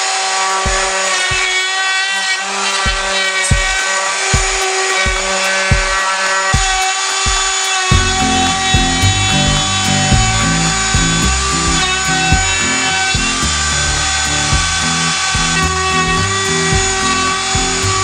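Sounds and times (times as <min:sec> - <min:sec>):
router whining: 0:00.0 - 0:18.0
background music with beat: 0:00.5 - 0:01.8, 0:02.8 - 0:18.0.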